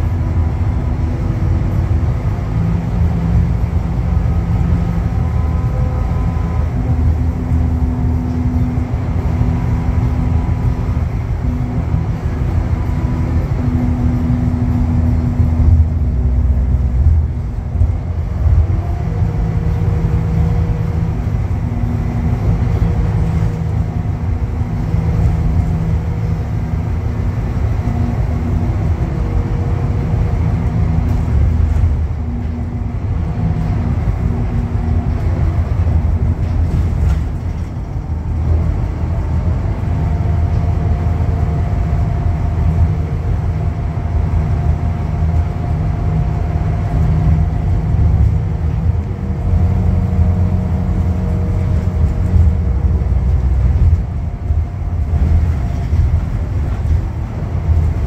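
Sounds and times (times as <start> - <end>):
bus engine drone inside cabin: 0.0 - 58.0.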